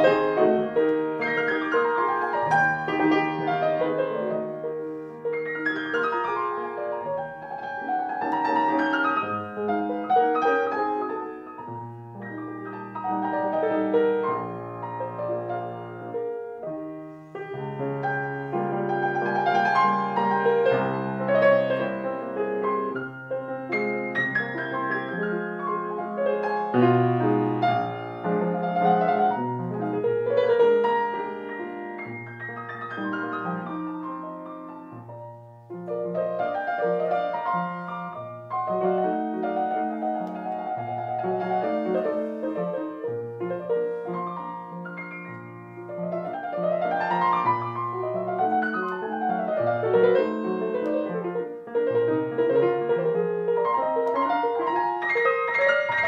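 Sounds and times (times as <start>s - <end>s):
grand piano classical piece: 0.0s - 56.0s.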